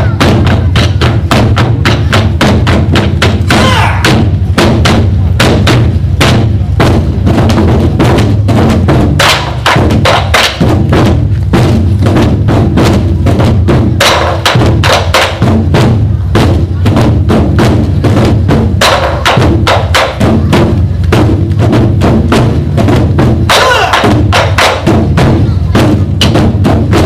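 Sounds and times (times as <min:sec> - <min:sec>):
deep booming drums: 0:00.0 - 0:27.0
drums playing fast rhythm: 0:00.0 - 0:27.0.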